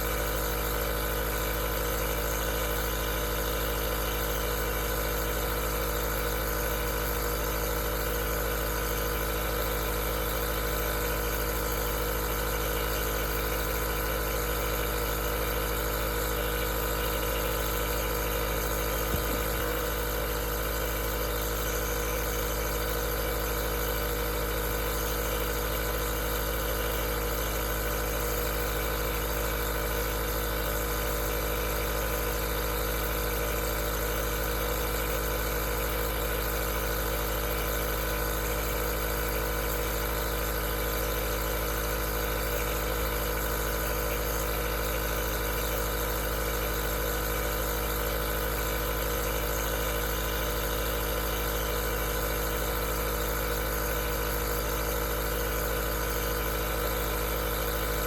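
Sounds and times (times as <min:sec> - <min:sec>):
nebulizer hum and hiss: 0:00.0 - 0:58.0.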